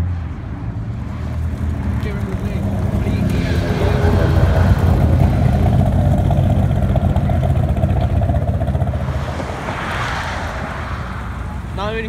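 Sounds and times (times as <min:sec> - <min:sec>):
car engine pulling away: 0:00.8 - 0:12.0.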